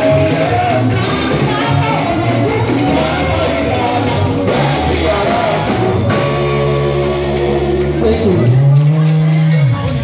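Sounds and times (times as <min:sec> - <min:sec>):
live band with bass line: 0:00.0 - 0:10.0.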